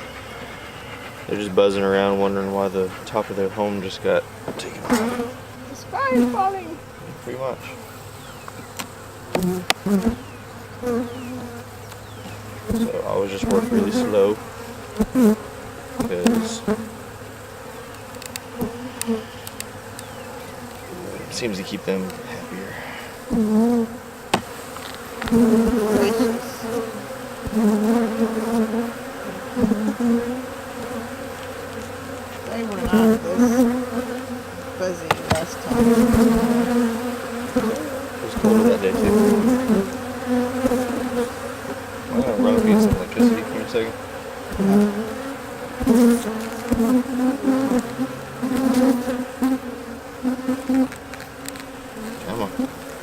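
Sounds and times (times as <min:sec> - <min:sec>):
honey bees buzzing: 0:00.0 - 0:53.0.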